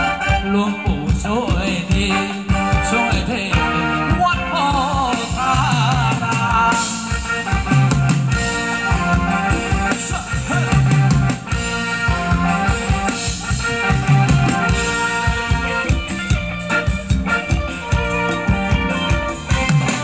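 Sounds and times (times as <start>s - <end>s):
drum kit beat: 0.0s - 20.0s
live band dance music: 0.0s - 20.0s.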